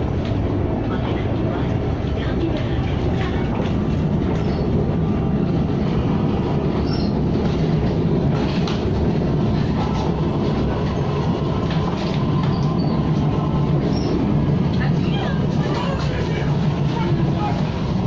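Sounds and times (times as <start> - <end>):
train rumble from inside coach: 0.0 - 18.0.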